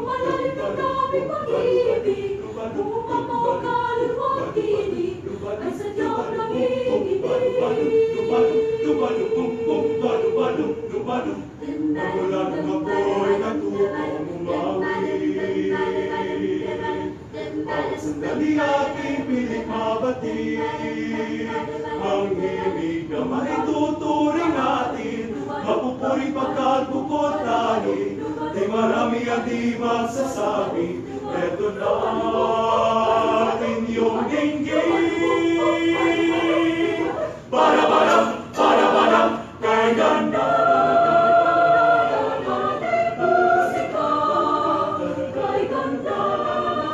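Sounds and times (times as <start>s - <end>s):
choir singing a cappella: 0.0s - 46.9s.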